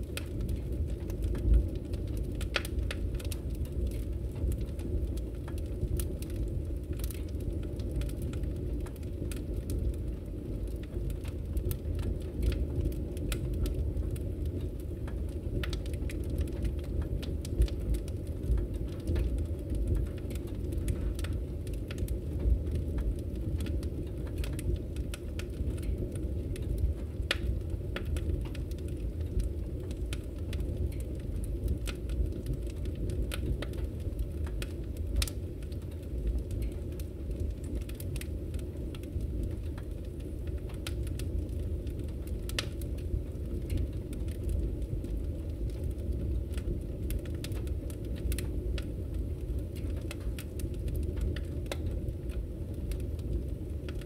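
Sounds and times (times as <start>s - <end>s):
fire flames rumbling: 0.0s - 54.0s
logs crackling and popping: 0.0s - 54.0s.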